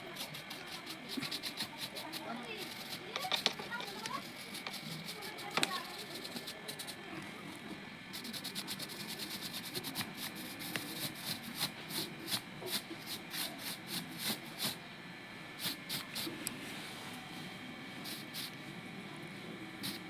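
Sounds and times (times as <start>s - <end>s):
hand brushing a model's surface: 0.0s - 7.1s, 8.1s - 14.8s, 15.6s - 18.6s, 19.8s - 20.0s.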